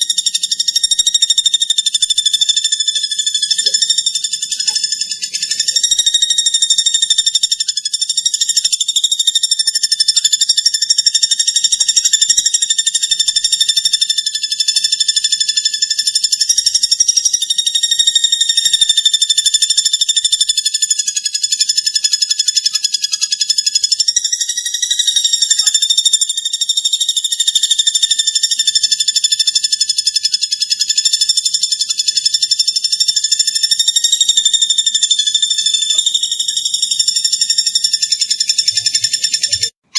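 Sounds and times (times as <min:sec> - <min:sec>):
bird song high rapid trill: 0:00.0 - 0:18.8, 0:19.5 - 0:39.9.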